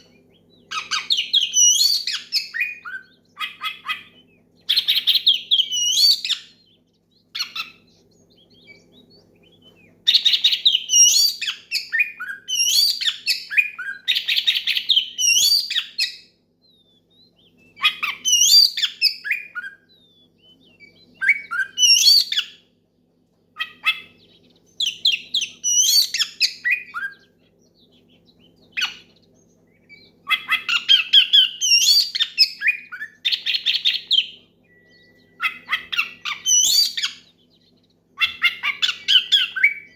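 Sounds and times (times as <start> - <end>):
bird singing whistled phrases: 0.0 - 22.6, 23.6 - 37.6, 38.2 - 39.9.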